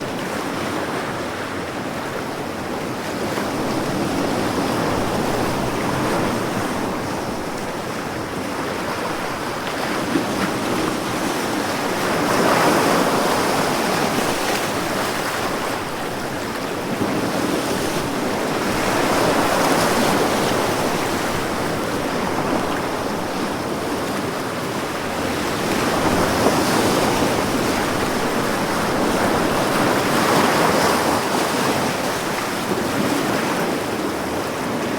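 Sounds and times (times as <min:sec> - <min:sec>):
ocean waves breaking on shore: 0:00.0 - 0:34.9.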